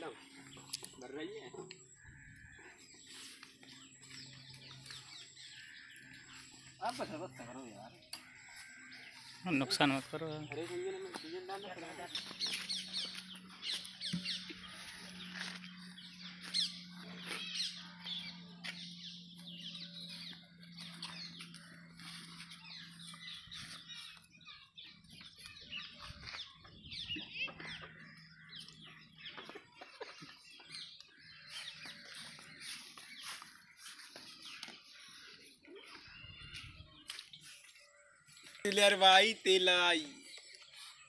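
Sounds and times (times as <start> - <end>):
birds chirping: 0.0 - 41.0.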